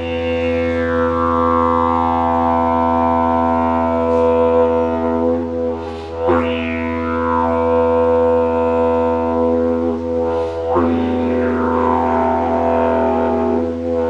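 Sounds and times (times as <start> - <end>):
didgeridoo drone: 0.0 - 14.0.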